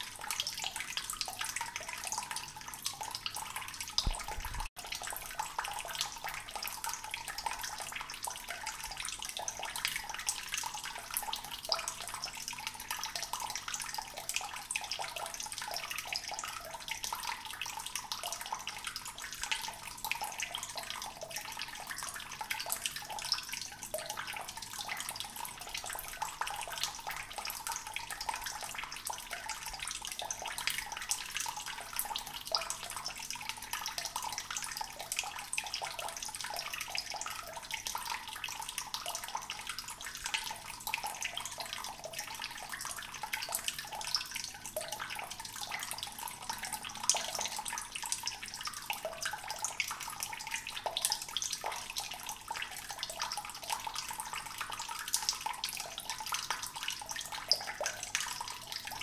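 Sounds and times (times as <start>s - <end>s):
water gurgling and trickling: 0.0s - 59.0s.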